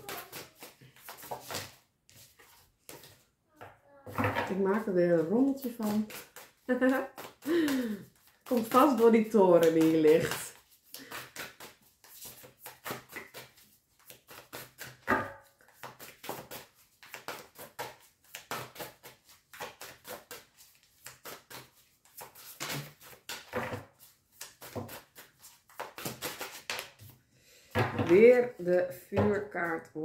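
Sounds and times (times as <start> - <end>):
cards being shuffled: 0.0 - 3.3, 5.2 - 15.0, 15.6 - 27.1.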